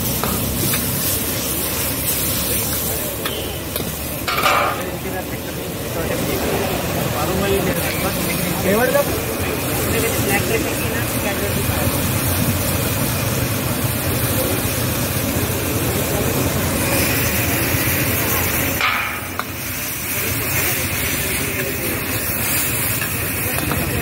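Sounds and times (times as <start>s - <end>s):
food sizzling in a wok: 0.0s - 24.0s
gas burner hissing: 0.0s - 24.0s.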